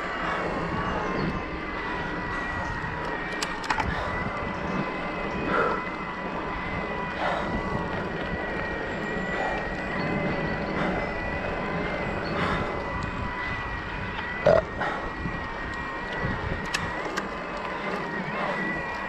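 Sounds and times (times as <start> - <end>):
steady high whine: 0.0 - 19.0
tyres on pavement: 0.0 - 19.0
wind noise: 0.0 - 19.0.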